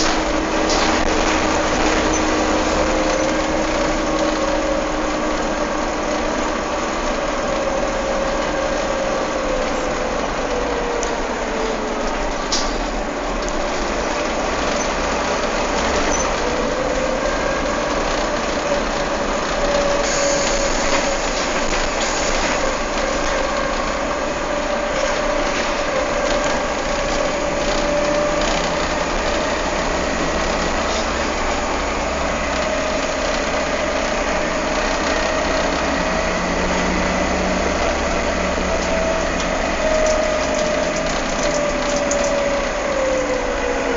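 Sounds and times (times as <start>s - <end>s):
diesel bus engine running: 0.0s - 43.9s
engine cooling fan whining: 0.0s - 43.9s.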